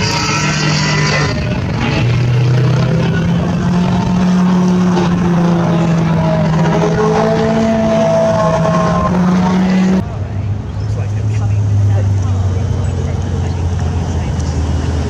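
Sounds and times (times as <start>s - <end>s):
sports car engines accelerating: 0.0s - 15.0s.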